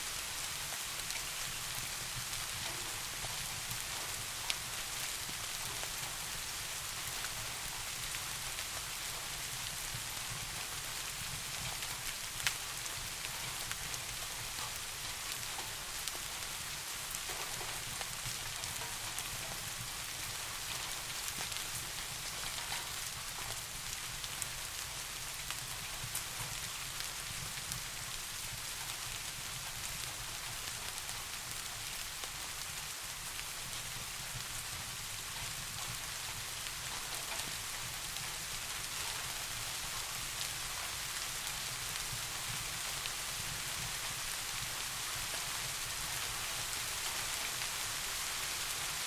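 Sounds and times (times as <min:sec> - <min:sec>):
steady rain hiss: 0:00.0 - 0:49.0
faint raindrop ticks: 0:00.1 - 0:49.0.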